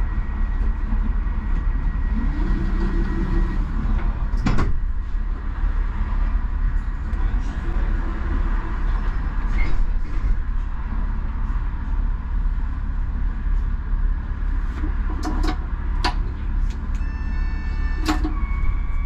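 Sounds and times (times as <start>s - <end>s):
tram wheels rumbling: 0.0s - 19.0s.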